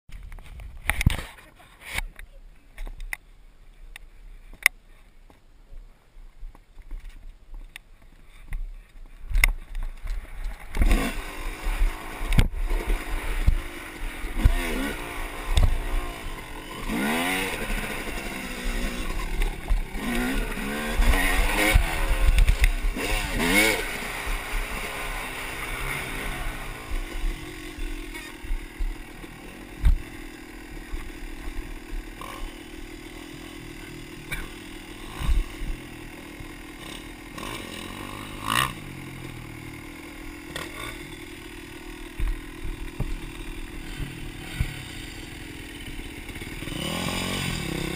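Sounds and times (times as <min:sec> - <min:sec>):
motocross engine revving: 0:09.4 - 0:47.9.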